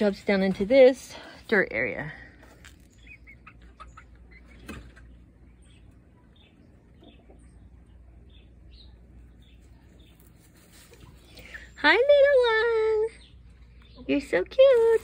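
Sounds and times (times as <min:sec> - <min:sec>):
young chickens chirping faintly: 0:02.4 - 0:15.0.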